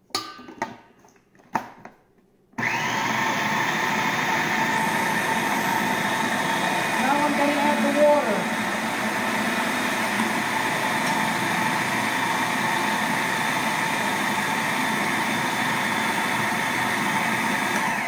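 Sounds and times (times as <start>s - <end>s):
food processor grinding: 2.6s - 18.0s.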